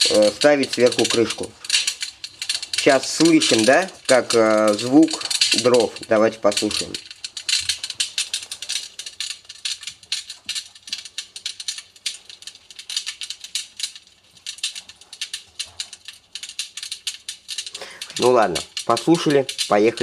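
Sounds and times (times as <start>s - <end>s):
fire crackling through small speaker: 0.0s - 20.0s.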